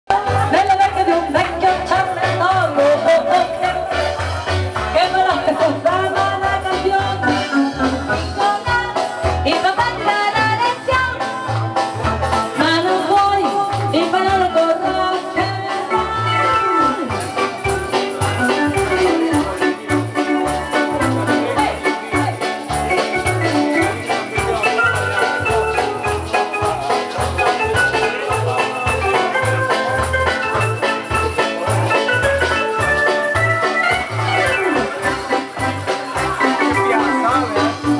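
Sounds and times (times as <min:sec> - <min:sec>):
bass beat: 0:00.1 - 0:37.9
electronic keyboard melody: 0:00.1 - 0:37.9
upbeat dance music: 0:00.1 - 0:37.9.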